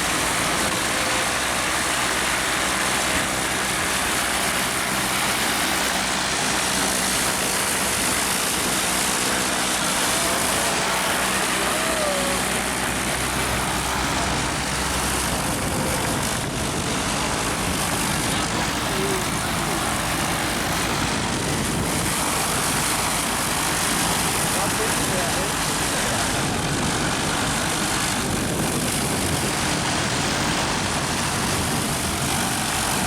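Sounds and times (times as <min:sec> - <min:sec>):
engine drone: 0:00.0 - 0:33.0
loud hiss: 0:00.0 - 0:33.0.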